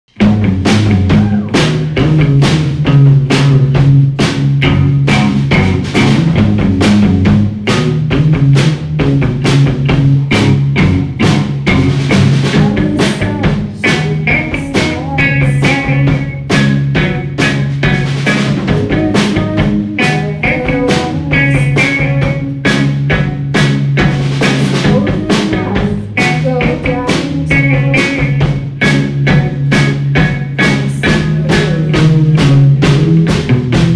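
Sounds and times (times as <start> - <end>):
drum kit beat: 0.1 - 33.9
electric bass notes: 0.1 - 33.9
electric guitar: 0.1 - 33.9.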